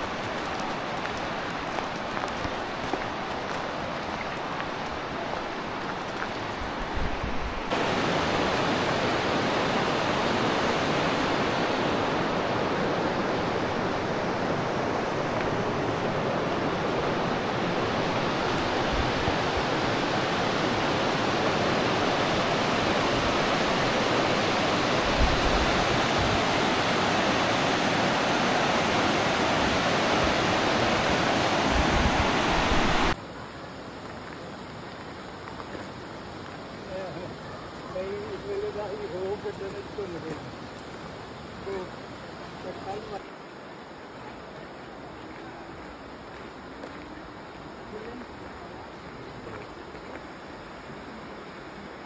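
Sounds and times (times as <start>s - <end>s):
rocky river rushing: 0.0s - 52.0s.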